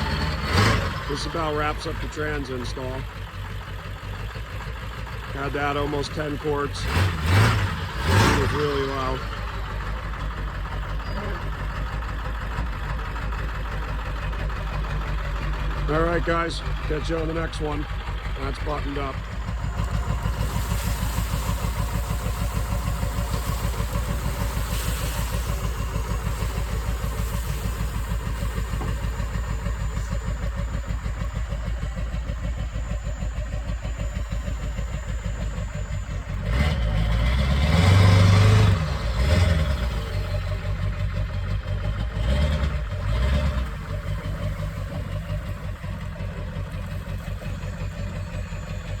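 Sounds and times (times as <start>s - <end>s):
truck engine idling and revving: 0.0s - 49.0s.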